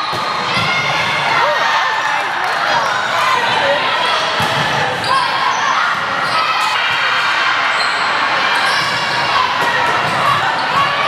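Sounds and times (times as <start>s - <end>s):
players' voices echoing: 0.1s - 11.0s.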